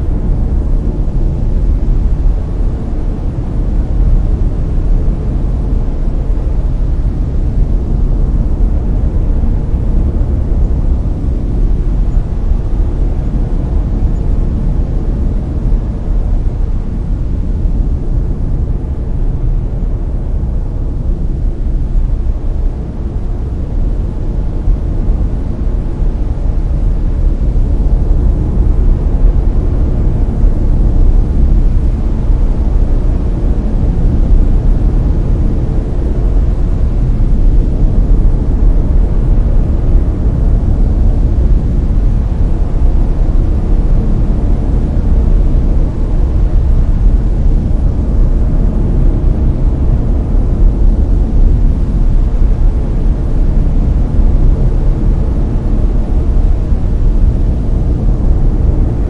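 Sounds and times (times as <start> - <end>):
deep brown noise hiss: 0.0 - 59.0.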